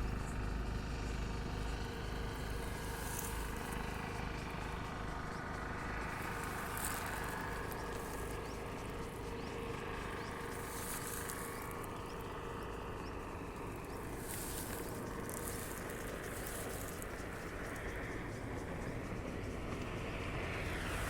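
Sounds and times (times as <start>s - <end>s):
steady low rumble: 0.1s - 21.0s.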